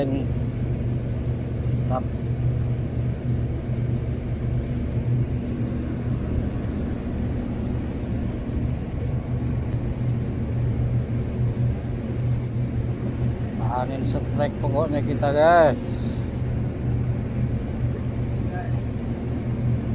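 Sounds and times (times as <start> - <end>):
engine humming steadily: 0.0 - 19.9.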